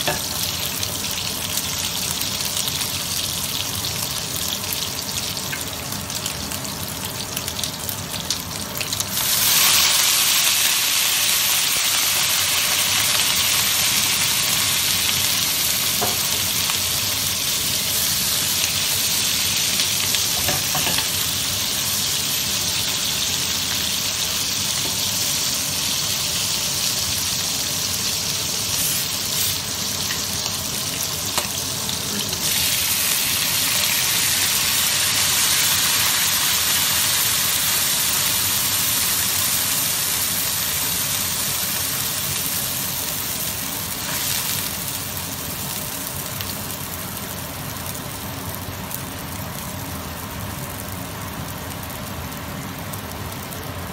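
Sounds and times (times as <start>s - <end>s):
liquid bubbling and sizzling: 0.0s - 53.9s.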